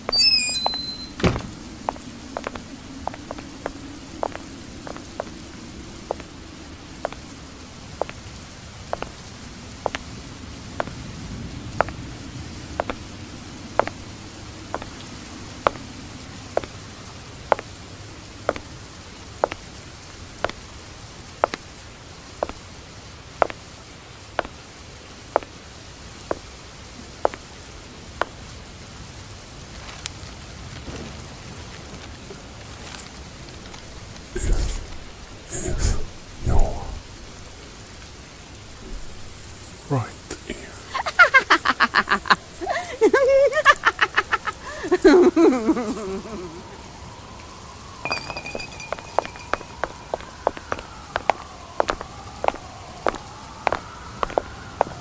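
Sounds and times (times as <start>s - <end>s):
low hazy background noise: 0.0s - 55.0s.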